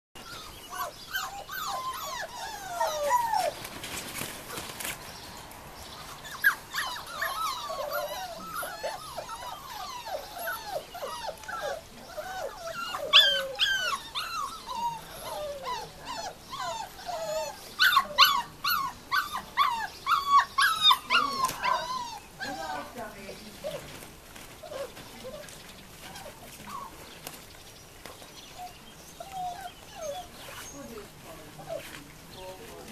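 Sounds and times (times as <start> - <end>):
puppies whining and yipping: 0.2 - 3.6, 6.0 - 23.9, 24.6 - 27.0, 28.5 - 32.0.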